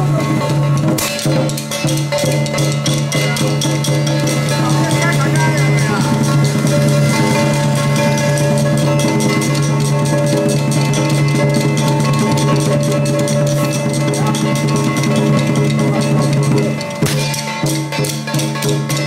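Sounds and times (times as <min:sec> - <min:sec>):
dense drumming and percussion: 0:00.0 - 0:19.0.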